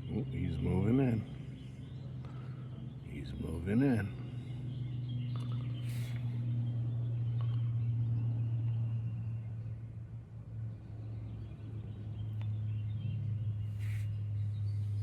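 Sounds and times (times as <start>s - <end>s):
faint bird chirps: 0.0s - 10.0s, 11.0s - 15.0s.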